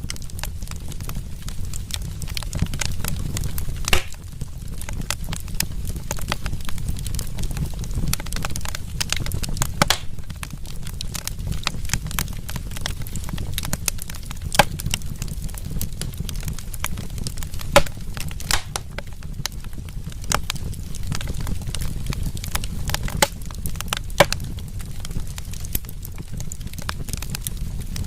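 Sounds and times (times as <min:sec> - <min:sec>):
low rumble of burning: 0:00.0 - 0:28.0
sharp pops of fire: 0:00.0 - 0:28.0
wood fire crackling: 0:00.0 - 0:28.0.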